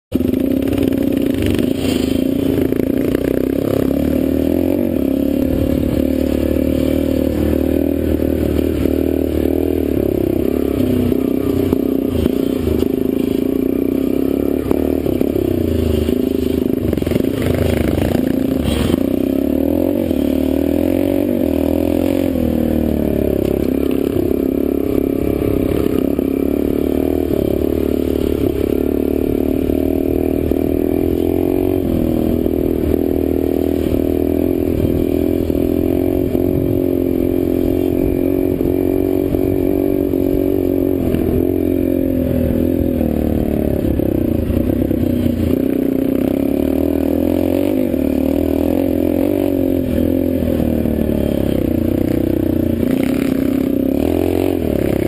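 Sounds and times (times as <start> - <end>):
dirt bike engine running: 0.1 - 55.0.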